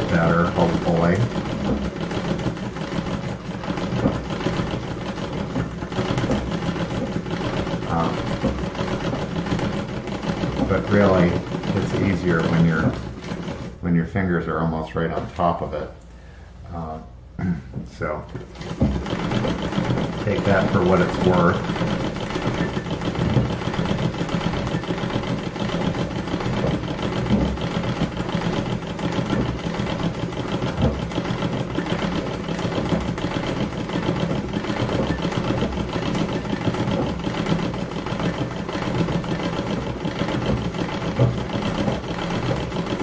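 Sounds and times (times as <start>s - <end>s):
treadle sewing machine stitching: 0.0s - 13.8s, 18.3s - 43.0s.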